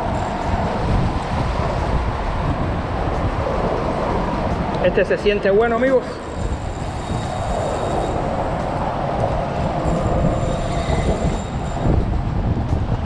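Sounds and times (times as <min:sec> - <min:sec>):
traffic rumble on bridge overhead: 0:00.0 - 0:13.0
water noise: 0:00.0 - 0:13.0
wind: 0:00.0 - 0:13.0.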